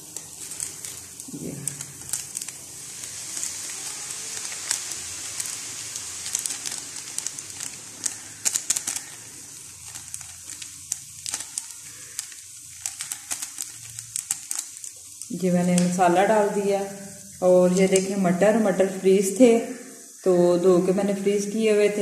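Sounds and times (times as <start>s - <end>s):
water boiling and bubbling: 0.0s - 22.0s.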